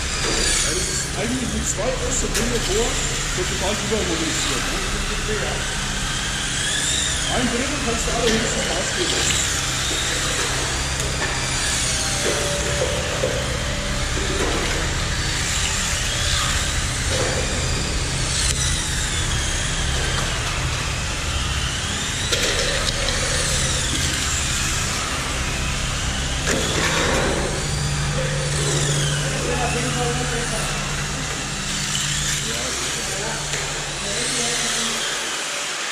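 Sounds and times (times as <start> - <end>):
model car motors whining: 0.0 - 35.9.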